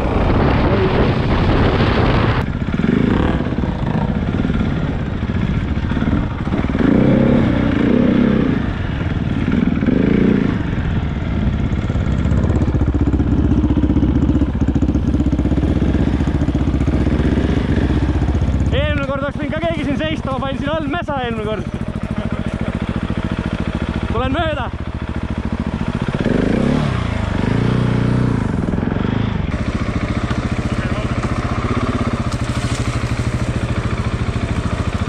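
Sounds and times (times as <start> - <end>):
motorcycle engine revving: 0.0 - 35.0
rush of riding noise: 0.0 - 35.0.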